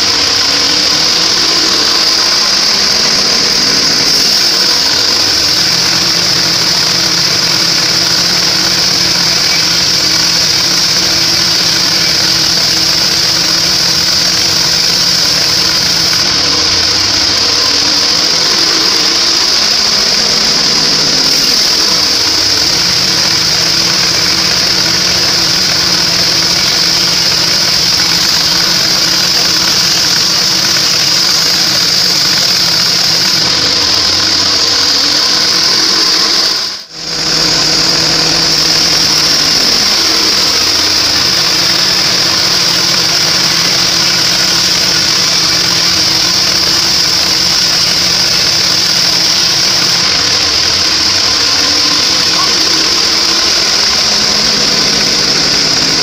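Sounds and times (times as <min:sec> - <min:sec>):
band saw blade whining: 0:00.0 - 0:56.0
low motor hum: 0:00.0 - 0:56.0.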